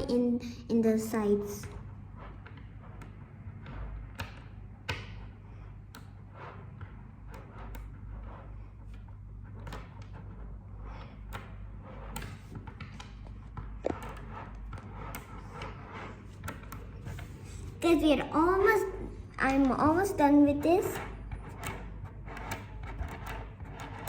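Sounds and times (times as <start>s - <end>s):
magnetic balls clicking: 1.6s - 24.0s.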